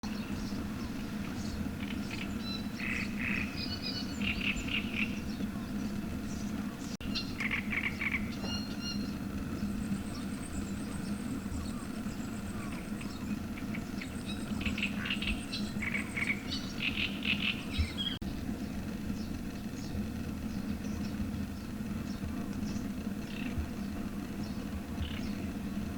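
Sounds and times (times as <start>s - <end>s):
small birds chirping: 0.0s - 25.9s
steady low hum: 0.0s - 25.9s.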